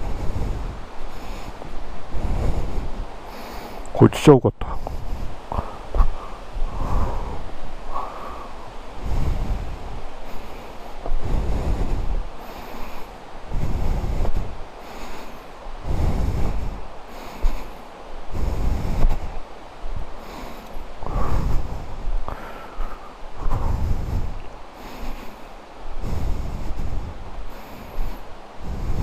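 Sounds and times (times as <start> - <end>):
person breathing hard: 0.0 - 4.0, 4.6 - 29.0
outdoor hiss: 0.0 - 29.0.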